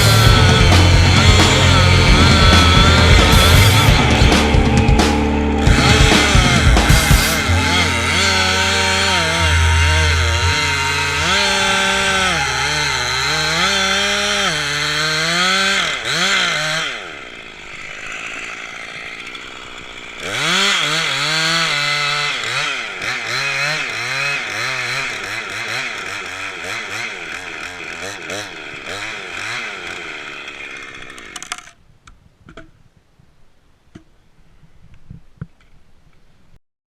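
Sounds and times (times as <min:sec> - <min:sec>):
chainsaw revving: 0:00.0 - 0:31.8.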